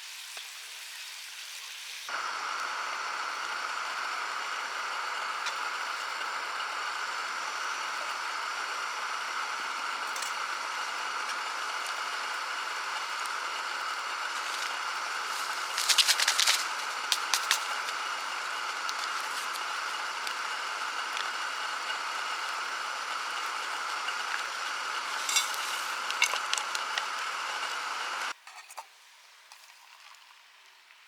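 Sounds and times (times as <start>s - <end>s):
food sizzling in frying pan: 0.0s - 28.0s.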